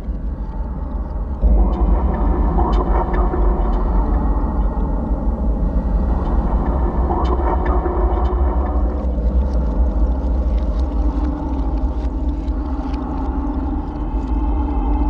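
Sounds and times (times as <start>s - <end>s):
deep rumbling drone: 0.0s - 15.0s.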